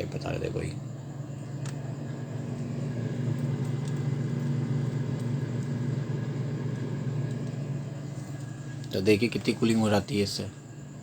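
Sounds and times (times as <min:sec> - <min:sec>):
refrigerator humming: 0:00.0 - 0:11.0.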